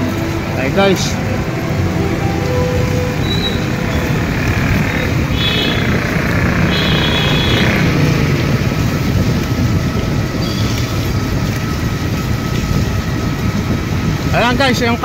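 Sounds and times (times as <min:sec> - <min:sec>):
motor scooter engine rumble: 0:00.0 - 0:15.0.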